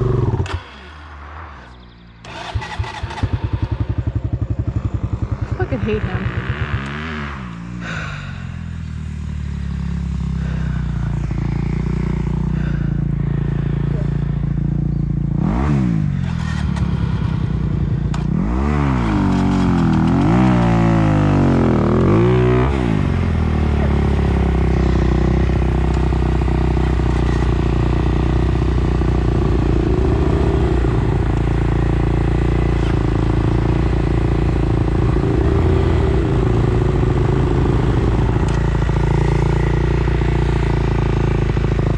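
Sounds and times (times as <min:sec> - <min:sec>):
dirt bike engine revving: 0:02.2 - 0:41.9.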